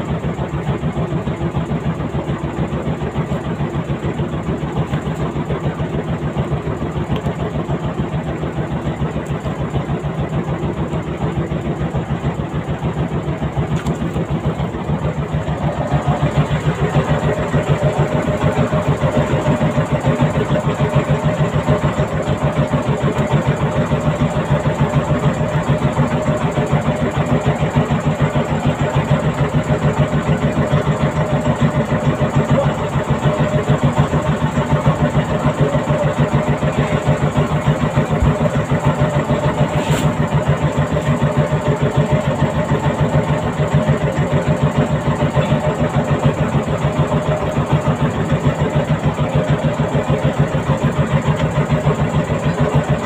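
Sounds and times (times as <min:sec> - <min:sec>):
boat engine thumping: 0:00.0 - 0:53.0.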